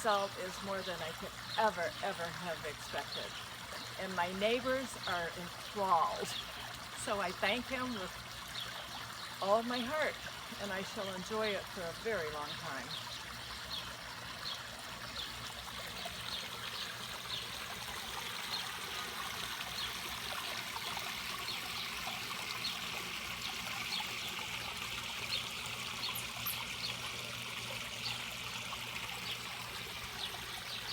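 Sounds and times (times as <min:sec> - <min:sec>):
water trickling over waterfall: 0:00.0 - 0:30.9.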